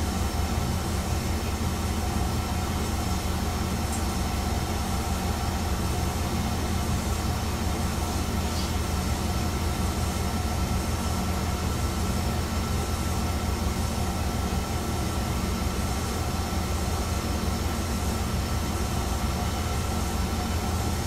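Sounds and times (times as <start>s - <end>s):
railcar engine drone: 0.0s - 21.0s.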